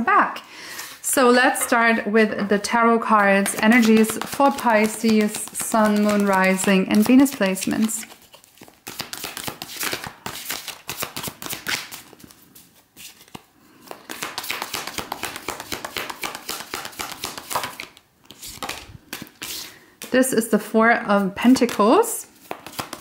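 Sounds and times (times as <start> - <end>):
cards being shuffled by hand: 3.2 - 20.2, 21.4 - 23.0.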